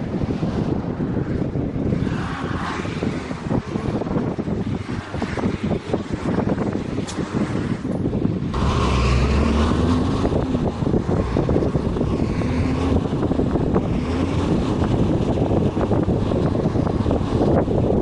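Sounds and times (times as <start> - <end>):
bus engine running: 0.0 - 18.0
road and wind noise: 0.0 - 18.0.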